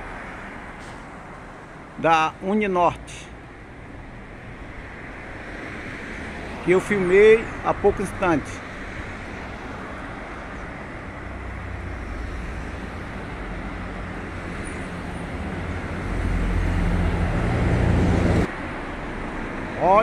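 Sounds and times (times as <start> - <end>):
vehicle engine hum: 0.0 - 19.9
street traffic: 0.0 - 20.0.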